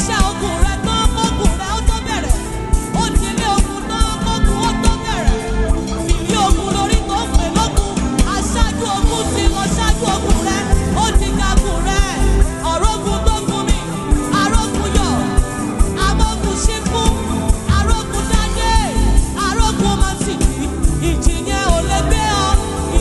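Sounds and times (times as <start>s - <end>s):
gospel band with driving beat: 0.0s - 23.0s.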